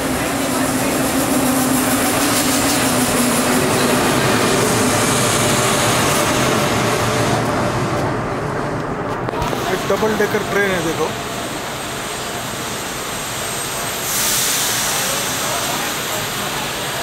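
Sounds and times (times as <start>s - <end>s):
train wheels hissing: 0.0s - 7.9s, 9.5s - 17.0s
train rumble: 0.0s - 17.0s.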